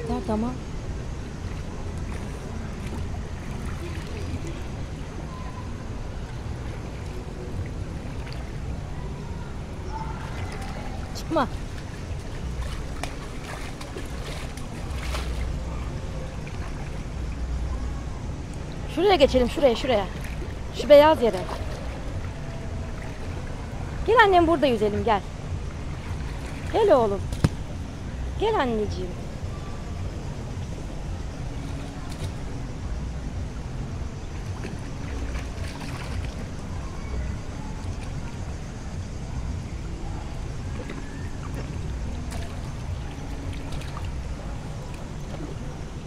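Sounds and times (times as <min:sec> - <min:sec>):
pool water lapping and splashing: 0:00.0 - 0:46.0
steady low rumble: 0:00.0 - 0:46.0.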